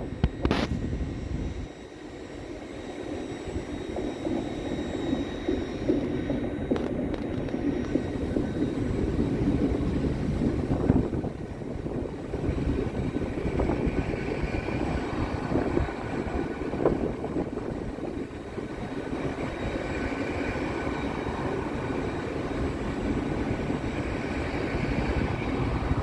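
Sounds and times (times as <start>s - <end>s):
faint high whine: 0.0s - 26.0s
train wheels rumbling: 3.1s - 26.0s.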